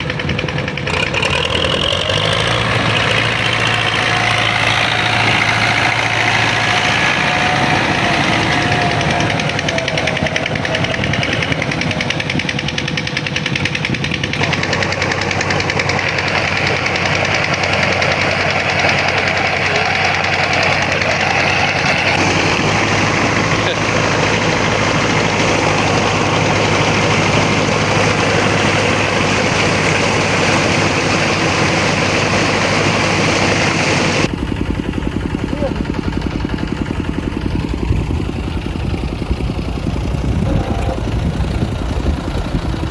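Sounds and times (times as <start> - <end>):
old tractor engine running: 0.0 - 42.9.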